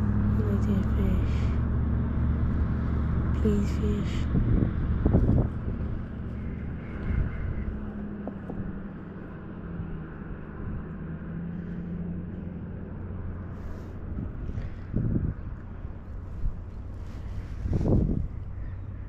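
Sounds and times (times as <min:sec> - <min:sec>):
distant engine hum: 0:00.0 - 0:19.0
low outdoor rumble: 0:00.0 - 0:19.0.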